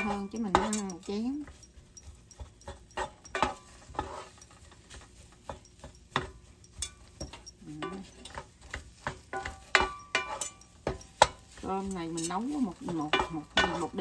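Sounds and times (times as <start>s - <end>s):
wooden spatulas scraping pan: 0.0s - 14.0s.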